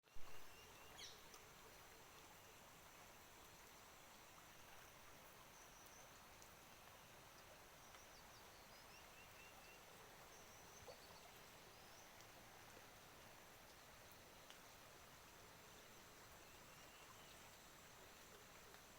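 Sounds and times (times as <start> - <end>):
soft outdoor hiss: 0.0 - 18.9.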